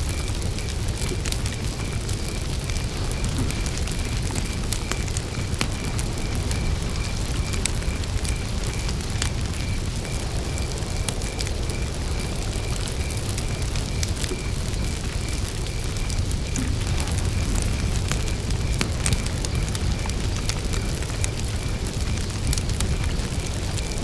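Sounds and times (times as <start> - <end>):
campfire flames rushing: 0.0 - 24.0
crackles and pops of burning wood: 0.0 - 24.0
cricket chirping: 0.0 - 24.0.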